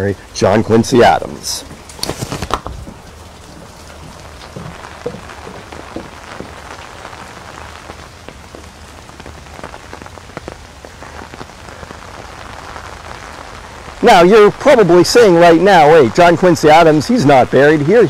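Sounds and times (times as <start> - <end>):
rain falling: 0.0 - 18.0
raindrops ticking on surfaces: 0.0 - 18.0.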